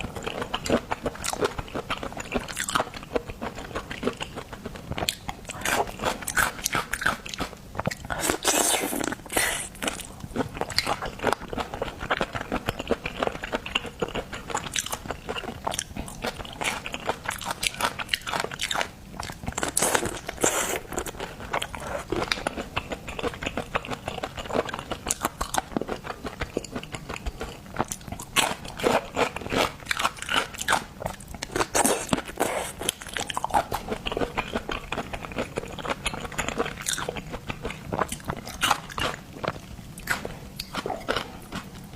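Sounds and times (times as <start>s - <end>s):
person chewing seafood: 0.0s - 41.9s.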